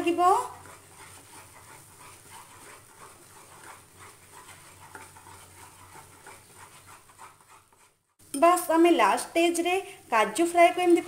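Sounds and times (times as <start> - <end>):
spatula swishing through paste: 0.0 - 8.2, 9.3 - 11.0.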